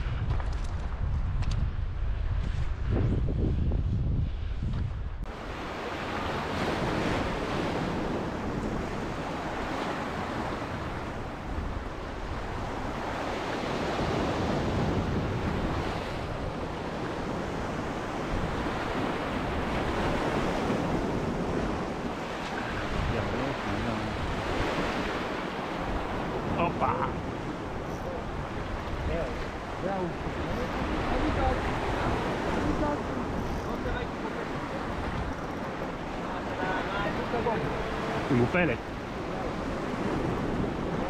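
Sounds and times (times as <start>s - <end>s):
wind buffeting microphone: 0.0s - 41.0s
sea surf washing over rocks: 5.3s - 41.0s.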